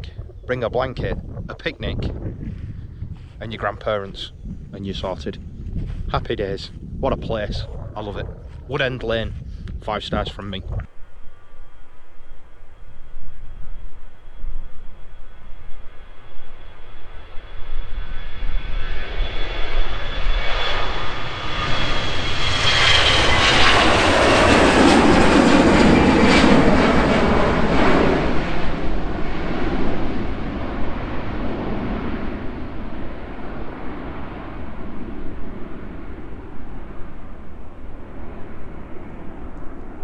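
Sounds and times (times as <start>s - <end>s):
high jet engine whine: 0.0s - 40.0s
jet airliner taking off: 0.0s - 40.0s.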